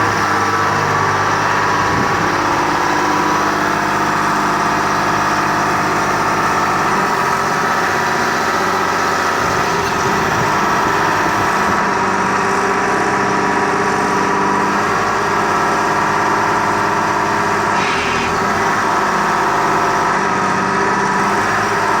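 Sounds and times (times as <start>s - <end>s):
drill rig engine running: 0.0s - 22.0s.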